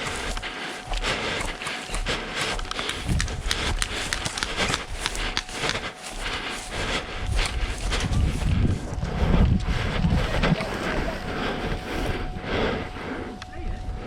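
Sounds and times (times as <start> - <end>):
clothing and gear rustling: 0.0 - 14.0
footsteps: 0.0 - 14.0.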